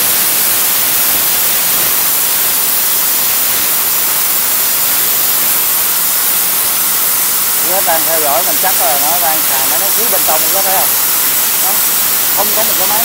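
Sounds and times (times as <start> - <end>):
plasma cutter hissing: 0.0 - 13.0.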